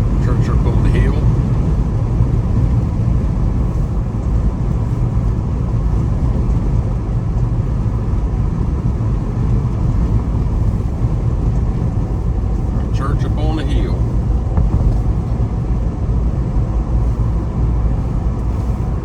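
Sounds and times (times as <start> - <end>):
car cabin engine and road rumble: 0.0 - 19.0.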